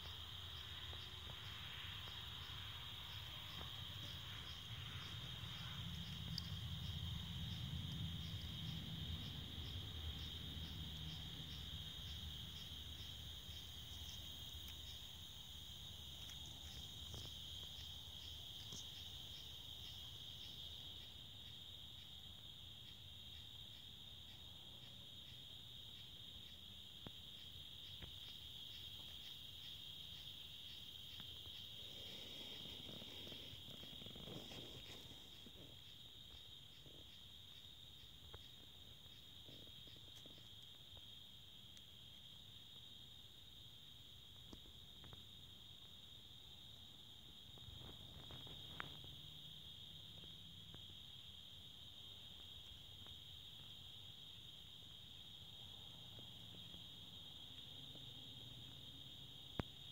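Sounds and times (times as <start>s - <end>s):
insect pulsing chirp: 0.0s - 59.9s
insects trilling: 0.0s - 59.9s.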